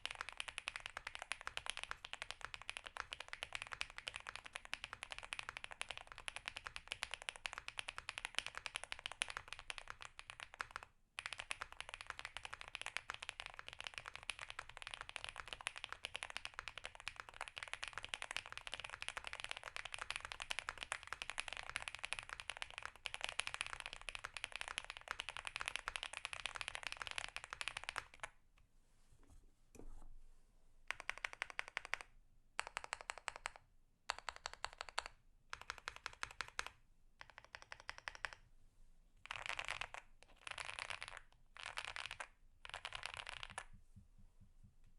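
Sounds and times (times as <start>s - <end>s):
mechanical keyboard typing: 0.0s - 28.3s, 30.9s - 38.4s, 39.3s - 43.7s.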